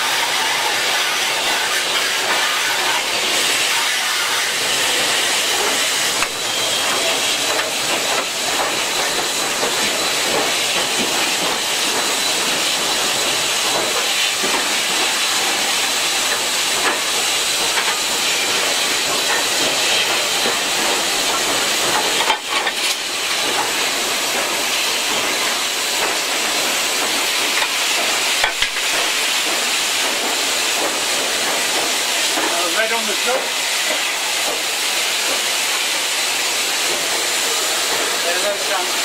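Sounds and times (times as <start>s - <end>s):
steam hissing: 0.0s - 39.0s.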